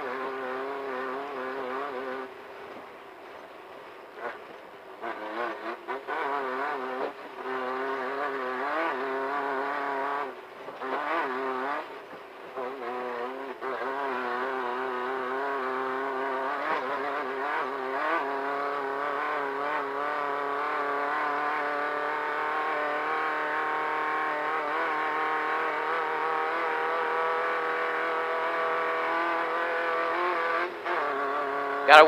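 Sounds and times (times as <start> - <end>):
race car engine revving high: 0.0 - 2.8, 4.1 - 32.0.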